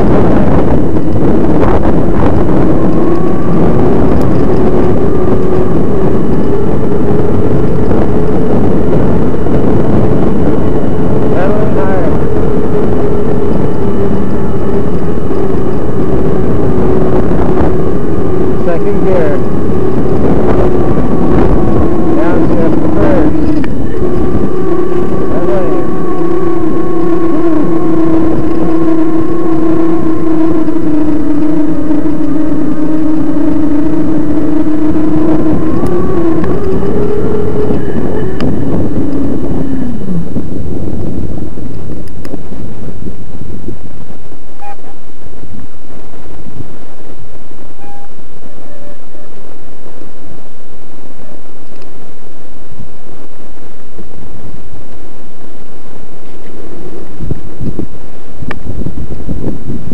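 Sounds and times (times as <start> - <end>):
constant rushing noise: 0.0 - 59.9
electric bike motor whine: 0.0 - 59.9.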